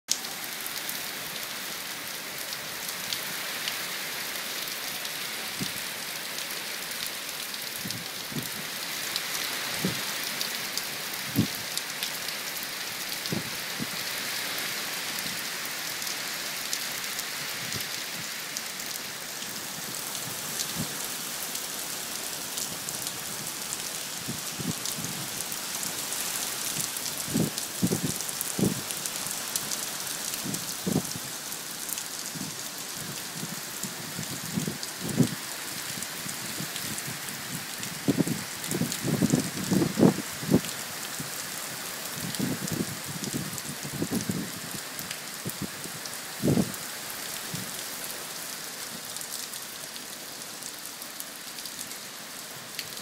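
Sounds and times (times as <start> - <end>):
heavy rain hissing: 0.1 - 53.0.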